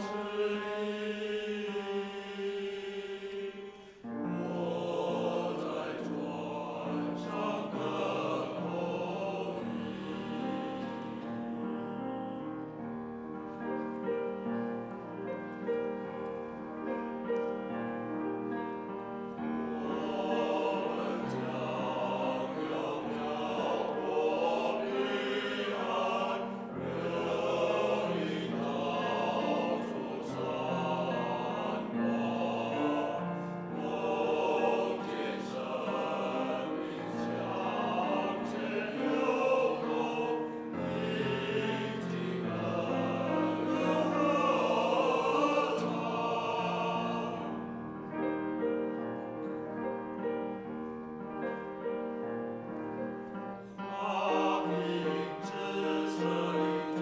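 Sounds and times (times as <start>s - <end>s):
men's choir singing: 0.0s - 12.8s, 18.7s - 48.3s, 53.7s - 57.0s
grand piano: 0.0s - 57.0s.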